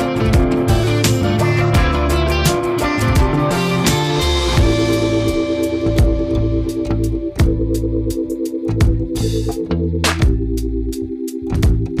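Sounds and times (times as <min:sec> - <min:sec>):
guitar rock music with drums: 0:00.0 - 0:12.0.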